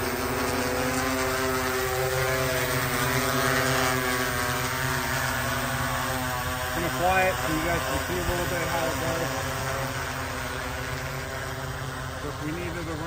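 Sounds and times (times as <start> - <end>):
drone propellers whining hum: 0.0 - 13.0.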